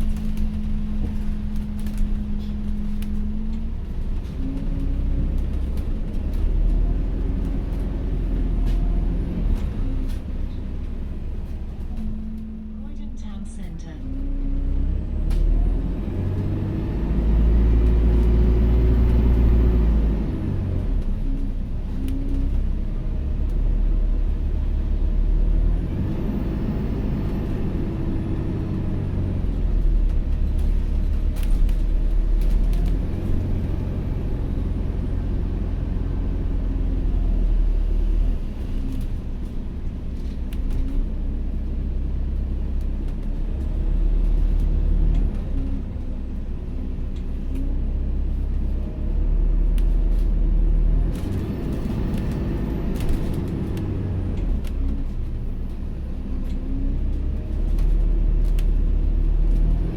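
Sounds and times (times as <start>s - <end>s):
bus drivetrain rumble: 0.0s - 59.9s.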